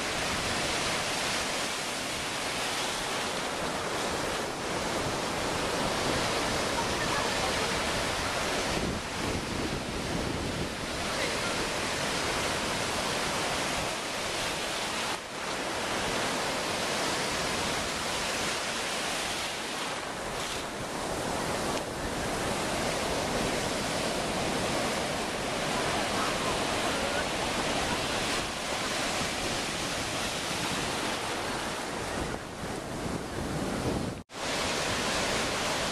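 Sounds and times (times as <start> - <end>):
ocean surf breaking: 0.0 - 35.9.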